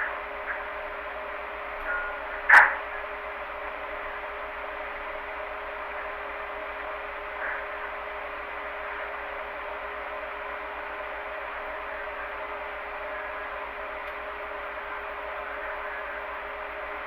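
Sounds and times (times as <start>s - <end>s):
refrigerator hum: 0.0s - 17.0s.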